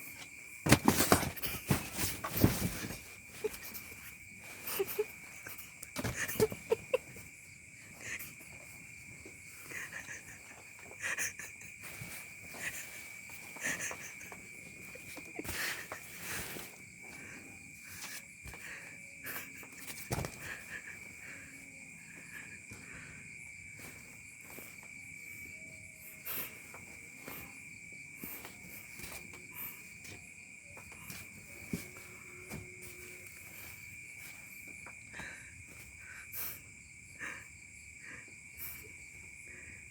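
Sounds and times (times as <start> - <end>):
insect chirring: 0.0 - 39.9.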